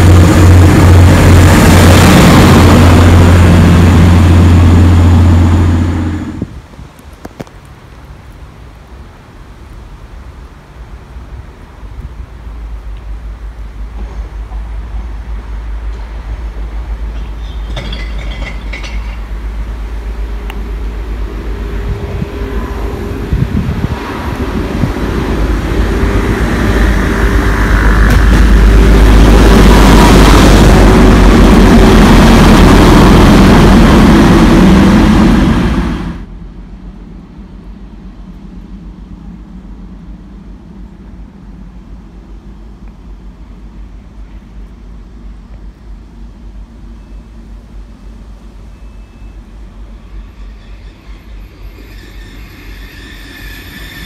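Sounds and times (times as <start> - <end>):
diesel train passing: 0.0 - 54.0.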